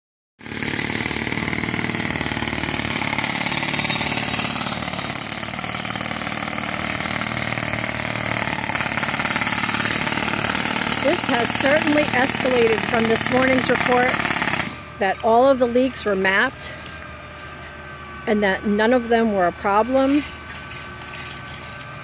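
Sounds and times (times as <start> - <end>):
construction machinery drone with rattle: 0.4 - 22.0.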